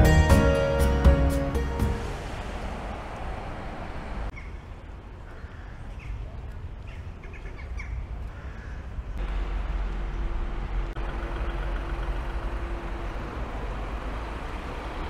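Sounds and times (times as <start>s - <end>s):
low traffic hum: 0.0s - 15.0s.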